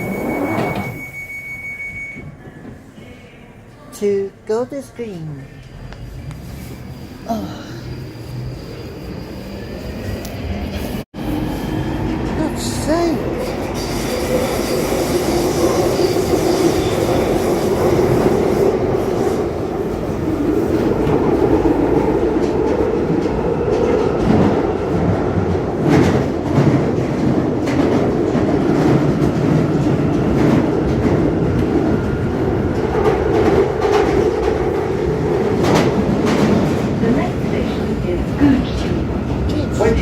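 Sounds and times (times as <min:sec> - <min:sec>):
train wheels rumbling on rail: 0:07.8 - 0:40.0.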